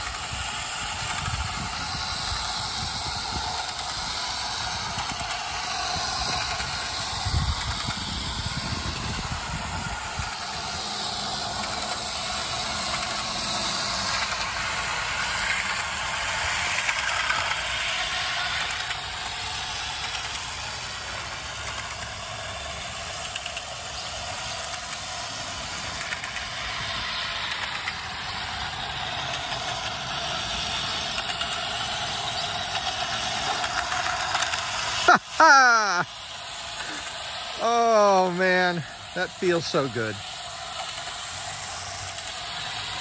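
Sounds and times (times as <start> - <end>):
model train whirring on rails: 0.0 - 43.0.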